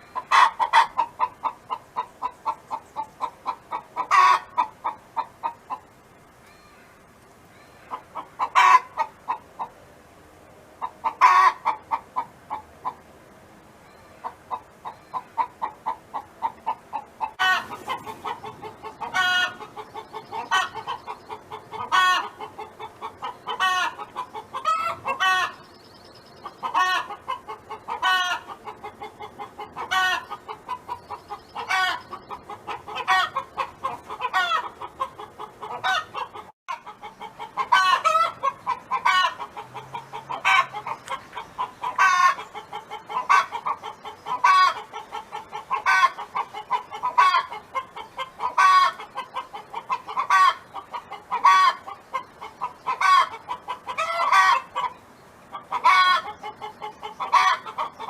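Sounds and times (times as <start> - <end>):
hen clucking: 0.0 - 6.0, 7.5 - 9.8, 10.8 - 13.1, 13.8 - 58.0.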